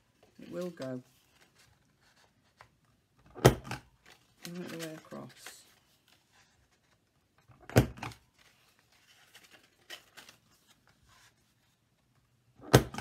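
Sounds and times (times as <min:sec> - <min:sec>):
paper rustling: 0:00.0 - 0:03.0, 0:03.9 - 0:07.5, 0:08.1 - 0:12.3.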